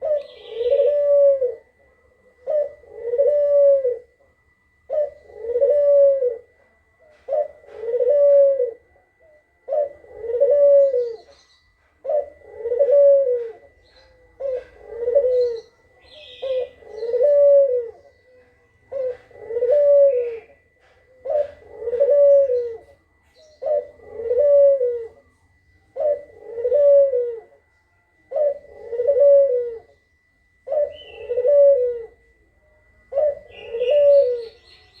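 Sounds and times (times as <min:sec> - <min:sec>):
bird's low cooing call: 0:00.0 - 0:35.0.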